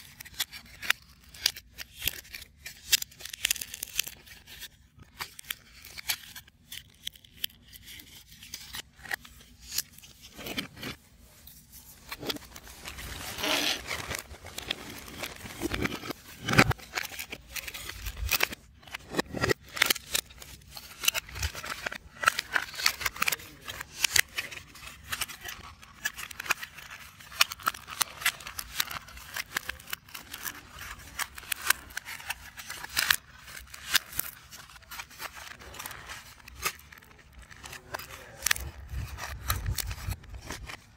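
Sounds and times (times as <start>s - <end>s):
puzzle pieces scraping: 0.0s - 40.9s
puzzle pieces clicking and snapping: 0.1s - 11.0s, 12.1s - 40.8s.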